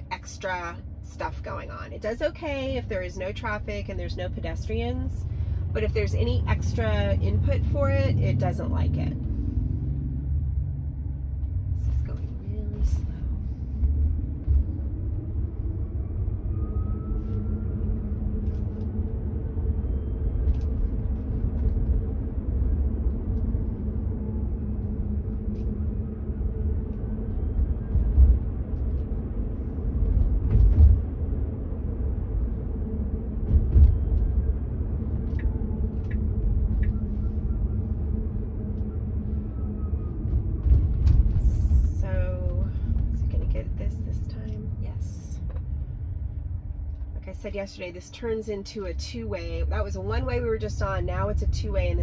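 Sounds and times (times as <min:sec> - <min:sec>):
low bumps: 0:00.0 - 0:52.0
road and tyre rumble: 0:00.0 - 0:52.0.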